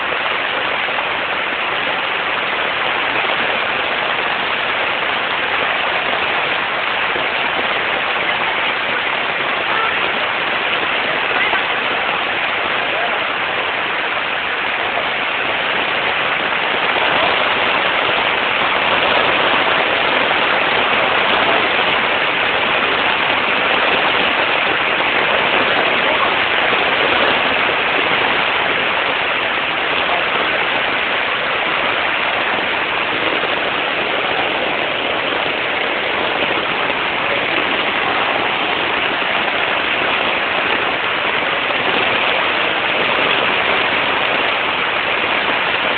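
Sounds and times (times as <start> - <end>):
floodwater pouring down street: 0.0 - 45.9
heavy rain: 0.0 - 45.9.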